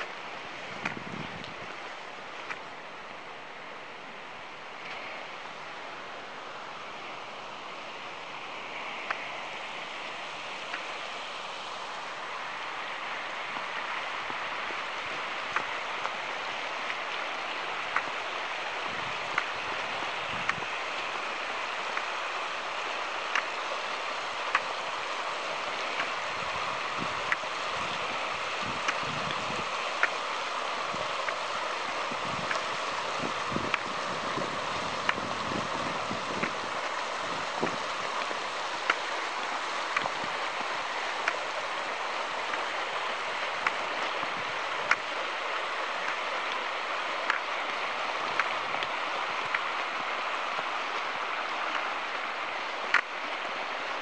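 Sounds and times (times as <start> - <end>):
river running over rocks: 0.0 - 54.0.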